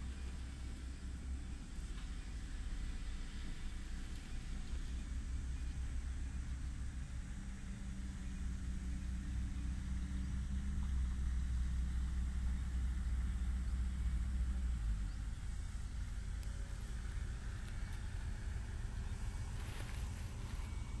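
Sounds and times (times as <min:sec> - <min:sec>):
heavy machinery engine humming: 0:00.0 - 0:21.0.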